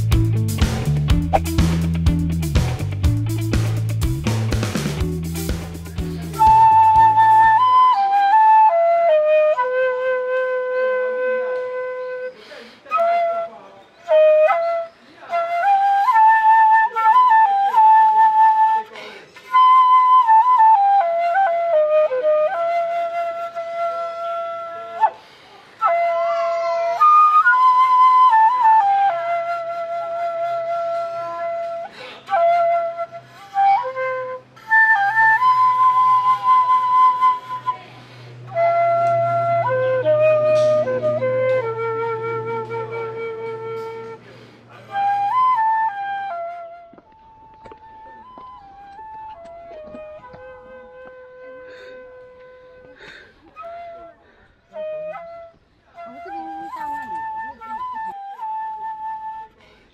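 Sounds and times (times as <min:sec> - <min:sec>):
flute-like melody: 0:00.0 - 0:59.9.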